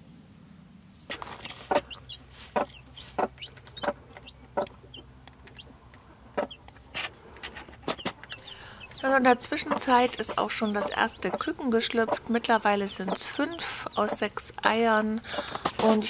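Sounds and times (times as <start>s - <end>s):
chicks peeping: 1.1s - 16.0s
hen clucking: 1.1s - 16.0s.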